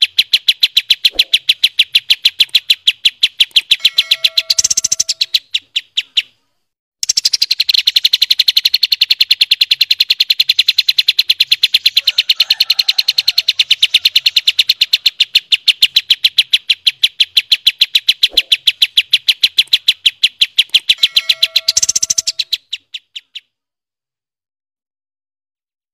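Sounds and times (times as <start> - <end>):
songbird fast trill: 0.0 - 6.4, 7.0 - 23.5.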